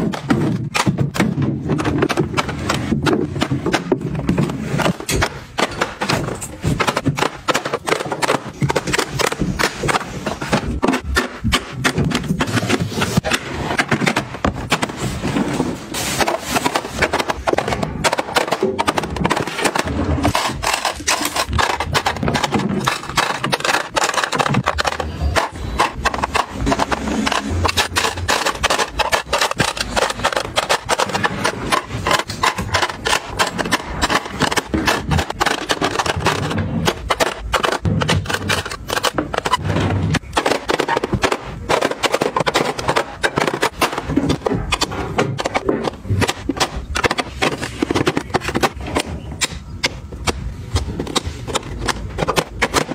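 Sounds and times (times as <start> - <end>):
plastic makeup items clattering: 0.0 - 52.9.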